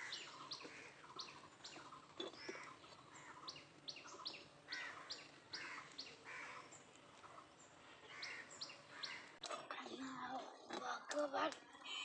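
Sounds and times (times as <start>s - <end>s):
faint bird chirping: 0.0s - 9.4s, 11.7s - 12.0s.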